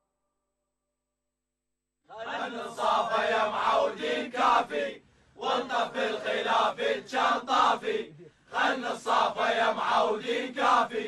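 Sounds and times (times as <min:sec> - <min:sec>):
men chanting in unison: 0:02.1 - 0:11.0.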